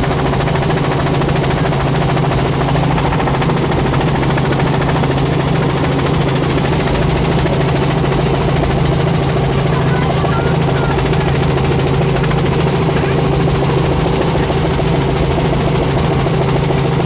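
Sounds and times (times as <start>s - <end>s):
helicopter engine and rotor: 0.0s - 17.0s.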